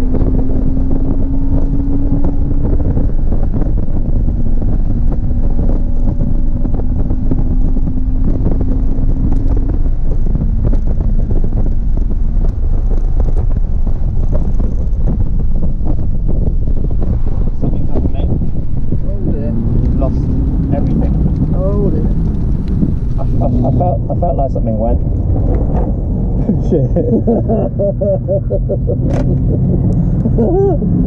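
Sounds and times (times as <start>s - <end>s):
car engine under load: 0.0s - 31.0s
road noise: 0.0s - 31.0s
wind buffeting microphone: 0.0s - 31.0s.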